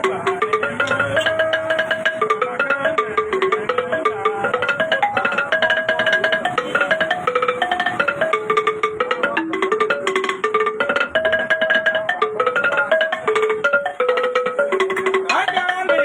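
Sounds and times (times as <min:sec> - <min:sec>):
fast plucked note melody: 0:00.0 - 0:16.0.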